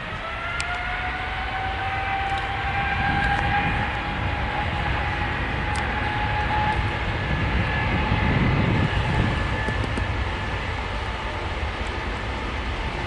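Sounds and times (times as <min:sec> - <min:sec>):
distant jet engines running: 0:00.0 - 0:13.0.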